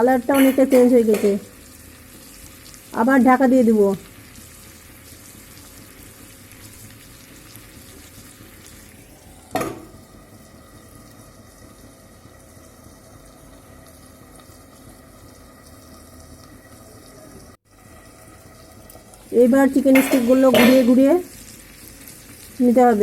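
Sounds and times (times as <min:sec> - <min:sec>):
meat sizzling in a pan: 0:00.0 - 0:23.0.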